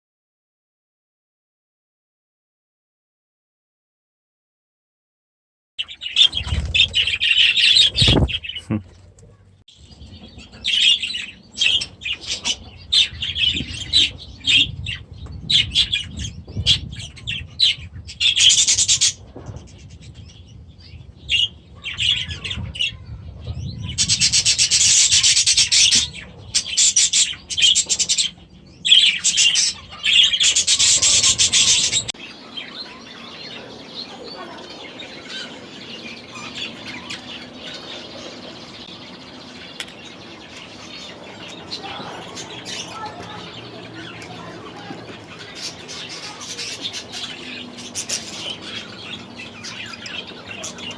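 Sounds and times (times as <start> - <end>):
budgies chirping and chattering: 5.8 - 50.9.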